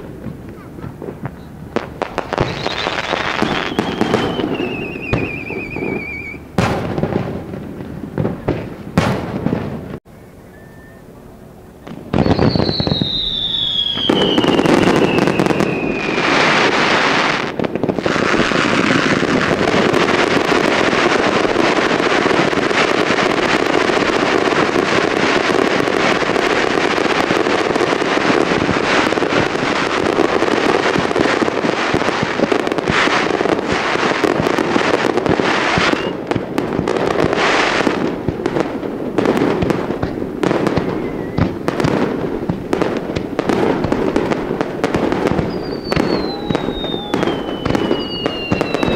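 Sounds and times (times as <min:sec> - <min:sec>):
falling firework whistle: 0:00.0 - 0:07.4, 0:08.2 - 0:11.2, 0:11.8 - 0:36.2, 0:40.4 - 0:42.1, 0:44.9 - 0:48.9
fireworks bursting and crackling: 0:00.0 - 0:48.9.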